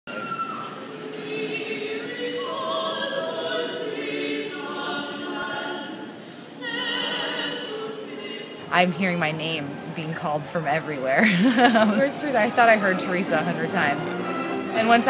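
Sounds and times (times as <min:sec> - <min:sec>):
choir singing held chords: 0:00.3 - 0:15.0.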